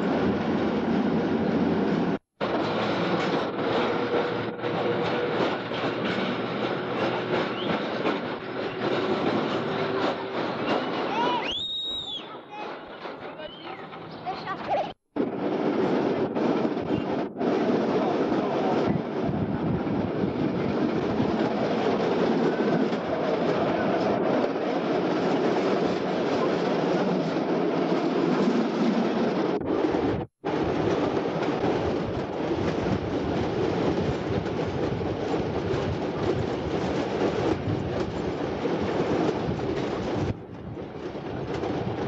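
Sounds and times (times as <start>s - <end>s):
tram wheels on rails: 0.0s - 42.0s.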